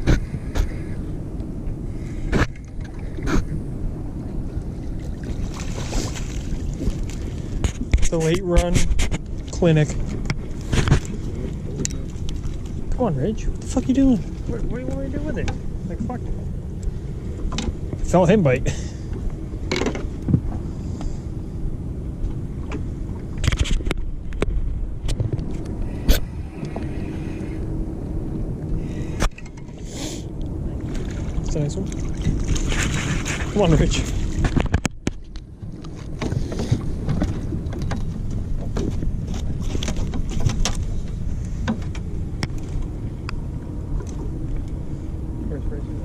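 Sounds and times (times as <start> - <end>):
boat engine rumble: 0.0 - 46.0
knocks and clicks on boat: 1.4 - 3.6, 4.6 - 16.2, 16.8 - 18.2, 19.1 - 21.2, 22.2 - 27.1, 28.6 - 29.8, 30.4 - 44.8.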